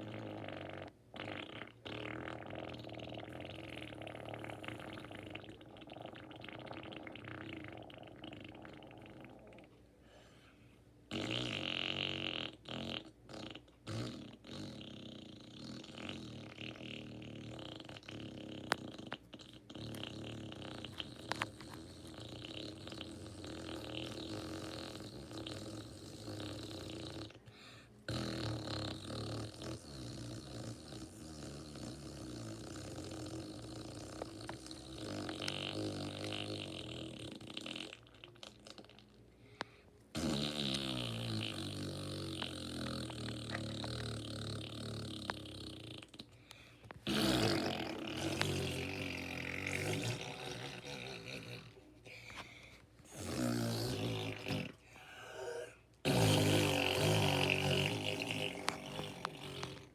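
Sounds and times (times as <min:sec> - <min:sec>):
person blowing raspberry: 0:00.0 - 0:09.8, 0:11.1 - 0:27.4, 0:28.1 - 0:39.4, 0:40.1 - 0:59.9.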